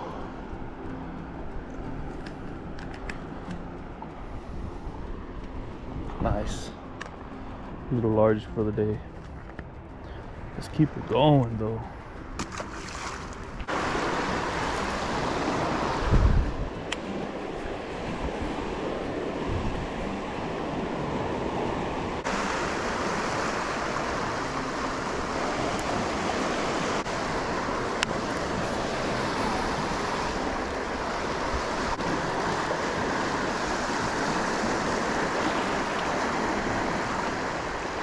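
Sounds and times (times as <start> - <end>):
moving water: 0.0 - 38.0
wind: 0.0 - 38.0.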